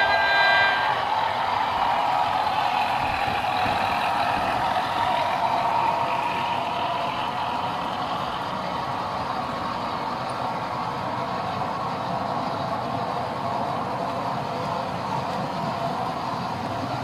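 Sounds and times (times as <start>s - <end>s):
model train engine sound: 0.0s - 17.0s.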